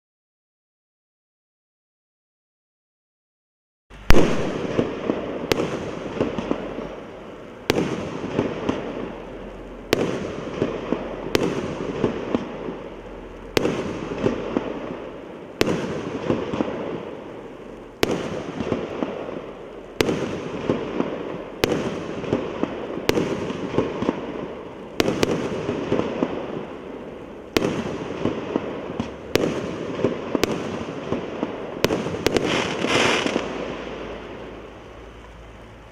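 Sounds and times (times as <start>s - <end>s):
firework pops and crackling: 4.0s - 35.9s.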